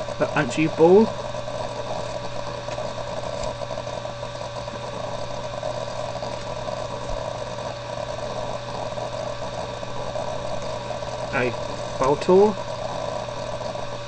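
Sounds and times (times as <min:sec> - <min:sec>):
machine hum with buzz: 0:00.0 - 0:14.0.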